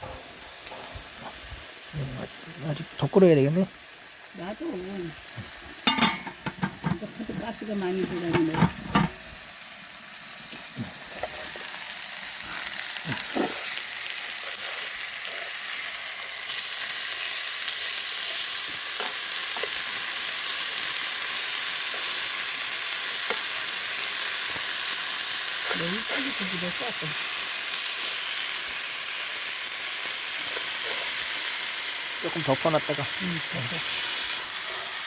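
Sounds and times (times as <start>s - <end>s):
meat sizzling on a grill: 0.0s - 35.0s.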